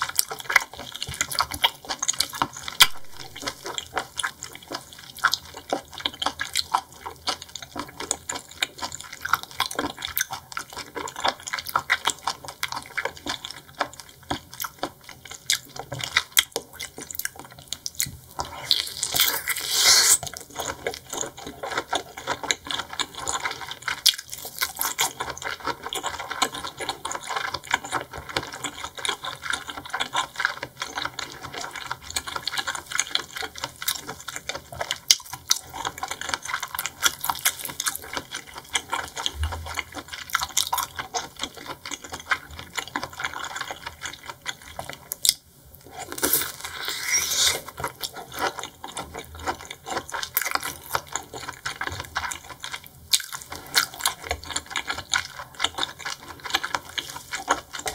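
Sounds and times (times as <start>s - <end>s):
wet chewing of seafood: 0.0s - 57.9s.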